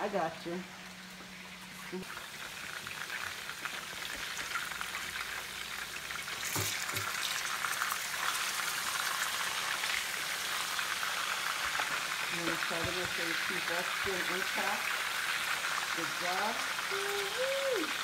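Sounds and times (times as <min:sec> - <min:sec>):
chicken sizzling in hot oil: 0:00.8 - 0:18.0.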